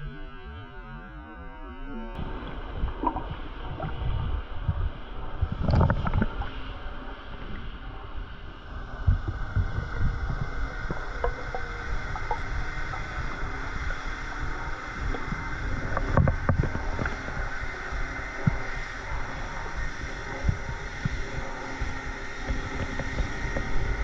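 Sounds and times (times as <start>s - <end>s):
underwater rumble of water: 0.0s - 24.0s.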